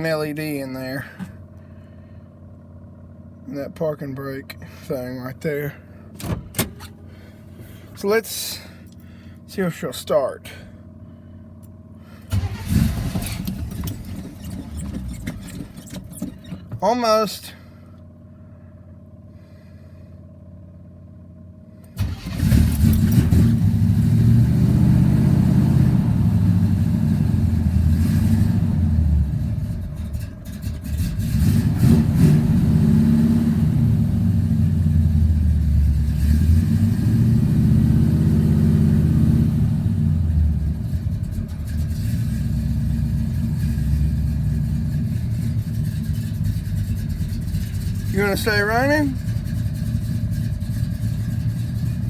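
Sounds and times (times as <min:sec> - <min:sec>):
truck engine starting and running: 0:00.0 - 0:18.5, 0:21.7 - 0:52.0.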